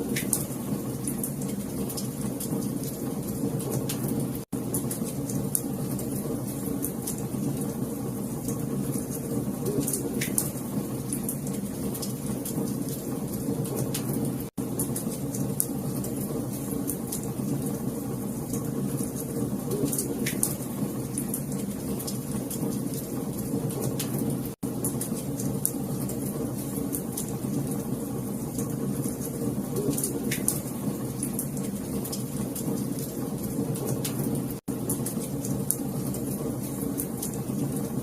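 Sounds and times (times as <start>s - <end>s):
low rumble of flames: 0.0s - 38.0s
wood fire crackling: 0.0s - 38.0s.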